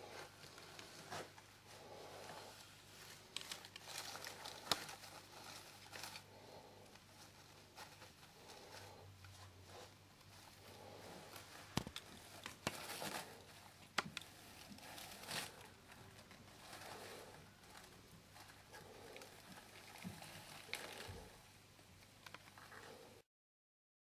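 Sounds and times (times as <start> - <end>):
faint rustling: 0.0 - 23.2.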